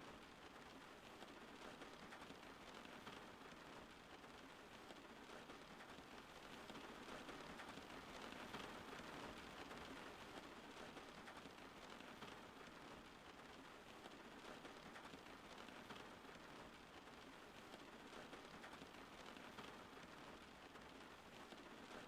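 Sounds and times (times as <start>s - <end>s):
faint steady rain: 0.0s - 22.0s.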